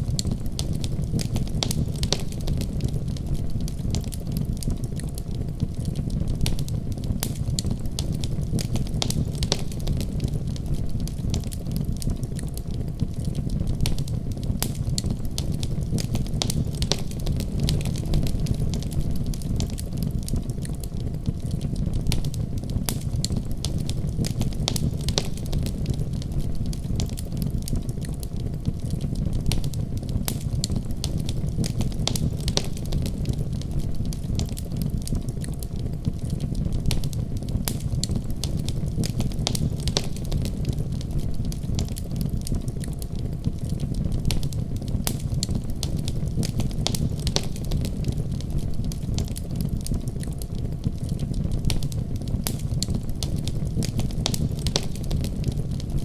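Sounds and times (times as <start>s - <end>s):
low rumble of flame: 0.0s - 56.0s
wood fire crackling and popping: 0.0s - 56.0s.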